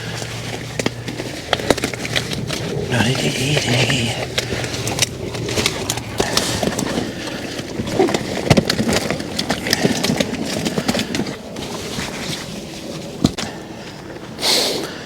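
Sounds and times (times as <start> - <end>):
knocks of flapping fish: 0.0 - 13.6.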